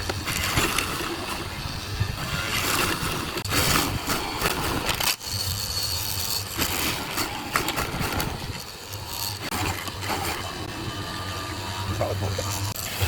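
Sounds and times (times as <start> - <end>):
workshop machine humming and hissing: 0.0 - 13.0.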